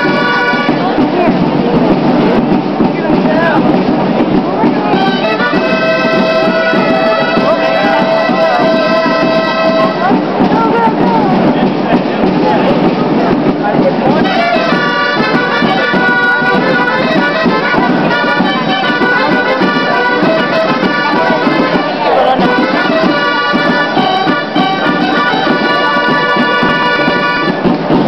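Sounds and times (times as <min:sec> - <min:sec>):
crowd murmur: 0:00.0 - 0:28.0
shawms playing reedy melody: 0:00.0 - 0:28.0.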